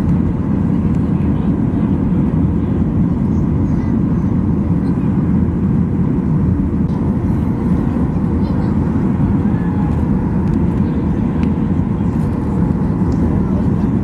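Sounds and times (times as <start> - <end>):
airliner engine rumble: 0.0 - 14.0.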